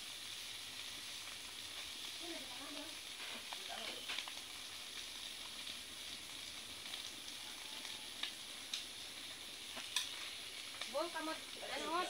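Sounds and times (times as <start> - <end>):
oil popping: 0.0 - 11.6
fish sizzling in oil: 0.0 - 12.0.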